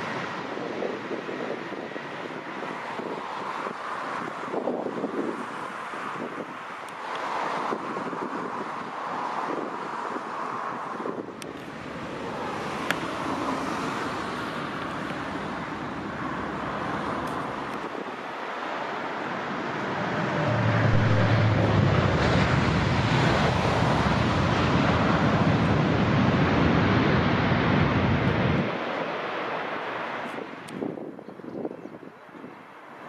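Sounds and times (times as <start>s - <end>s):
jet engines rushing rumble: 0.0s - 31.8s.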